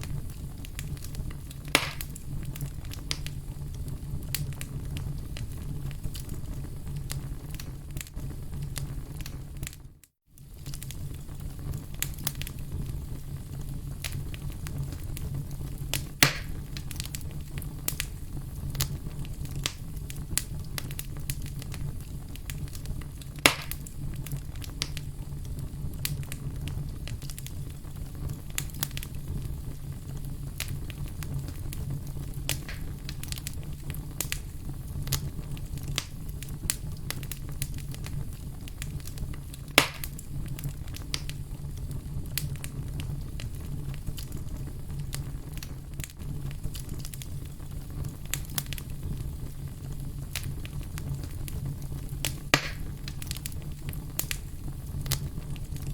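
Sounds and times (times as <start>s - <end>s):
loud pops from fire: 0.0s - 9.8s, 10.4s - 55.9s
fire low rumble: 0.0s - 55.9s
wood fire crackling: 0.0s - 55.9s.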